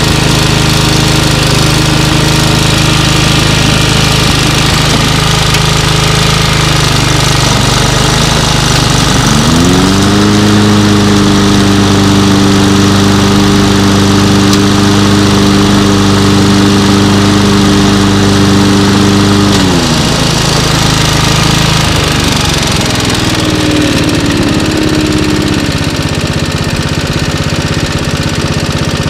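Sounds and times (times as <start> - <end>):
lawnmower engine running: 0.0 - 29.0.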